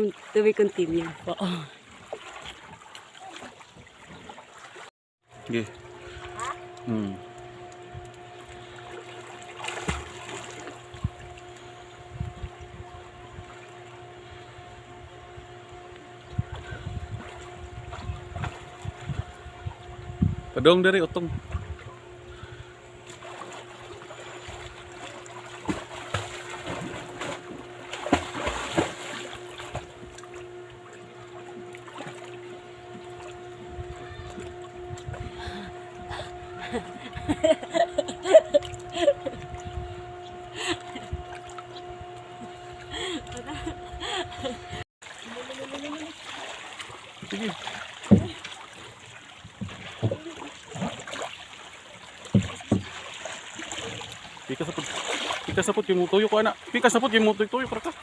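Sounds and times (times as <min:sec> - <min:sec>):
water splashing and sloshing: 0:00.0 - 0:58.0
steady low hum: 0:05.3 - 0:58.0.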